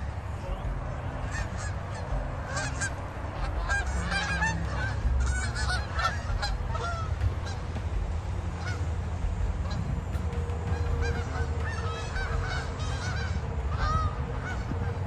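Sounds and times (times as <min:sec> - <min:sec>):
geese honking: 0:00.0 - 0:15.0
low rumble: 0:00.0 - 0:15.0.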